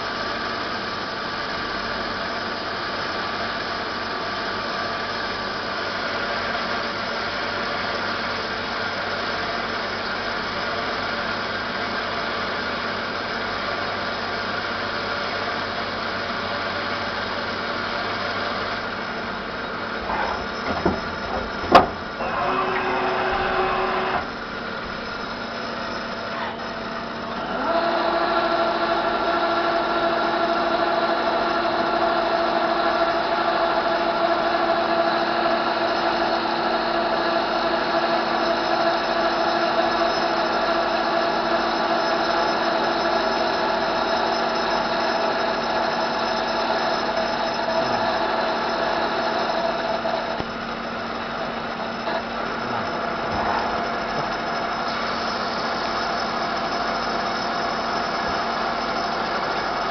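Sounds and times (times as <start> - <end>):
lathe machine whine: 0.0 - 59.9.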